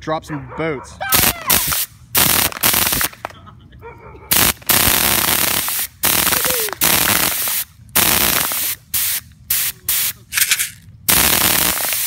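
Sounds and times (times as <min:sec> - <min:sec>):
bb gun firing bursts: 0:01.1 - 0:03.4, 0:04.3 - 0:12.0.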